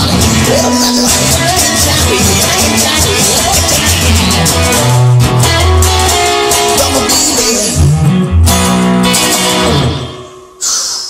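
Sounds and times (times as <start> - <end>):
song with guitar bass and beat: 0.0 - 11.0.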